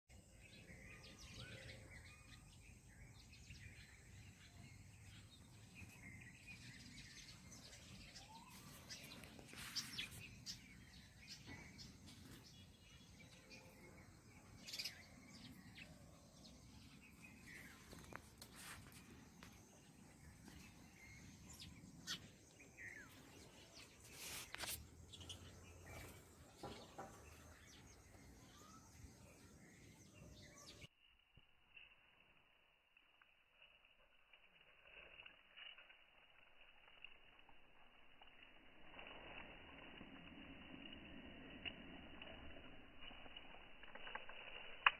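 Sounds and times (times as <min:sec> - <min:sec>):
faint chirps: 0:00.1 - 0:44.9
rustles: 0:03.2 - 0:44.9.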